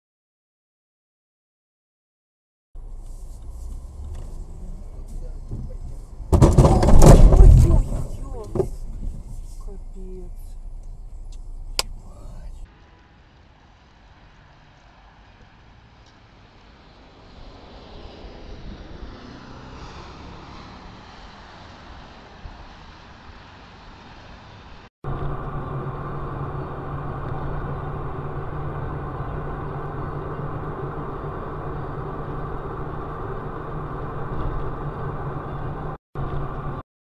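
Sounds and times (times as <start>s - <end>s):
traffic and road noise: 2.8s - 36.8s
vehicle engine drone: 2.8s - 36.8s.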